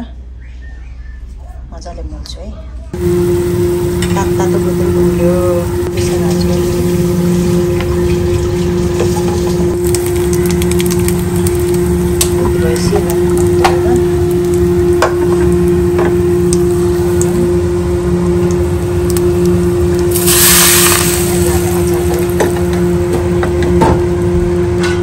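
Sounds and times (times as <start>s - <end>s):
food sizzling in hot oil: 3.0s - 23.1s.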